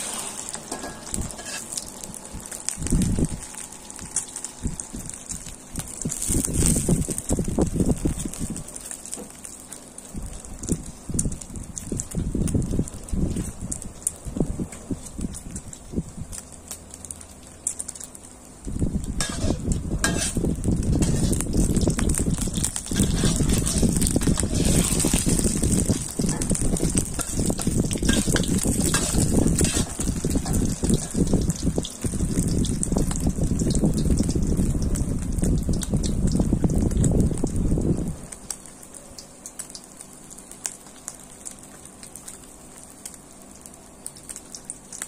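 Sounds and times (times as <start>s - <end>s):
omelet sizzling in hot oil: 0.0s - 45.0s.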